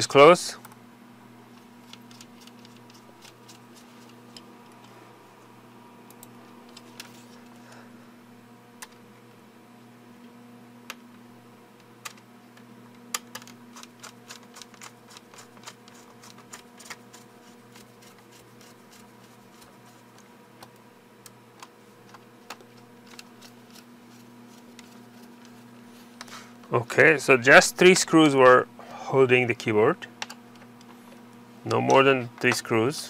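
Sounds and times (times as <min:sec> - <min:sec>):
faint hum: 0:00.0 - 0:33.0.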